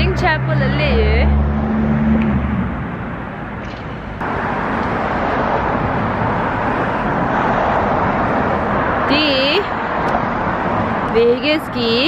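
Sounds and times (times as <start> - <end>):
street traffic passing cars: 0.0 - 12.0.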